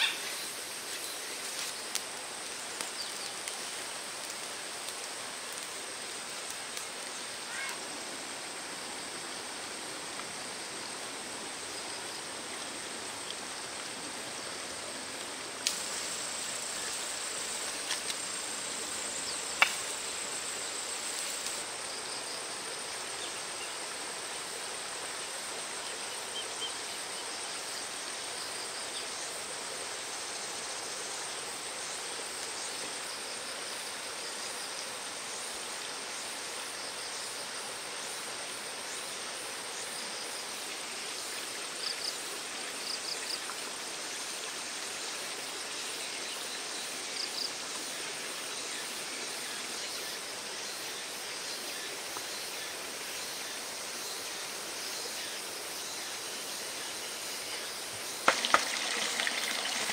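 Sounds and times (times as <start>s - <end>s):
constant hiss: 0.0s - 59.9s
high insect trill: 0.0s - 59.9s.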